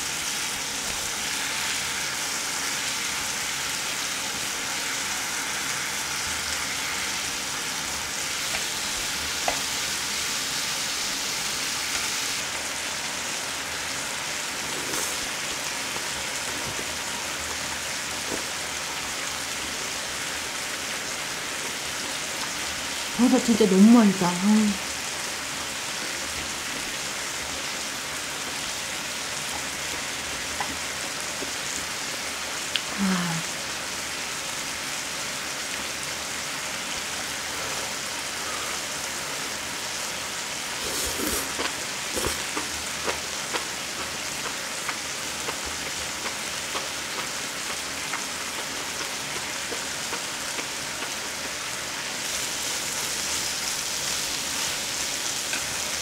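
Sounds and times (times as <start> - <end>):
meat sizzling on grill pan: 0.0 - 56.0.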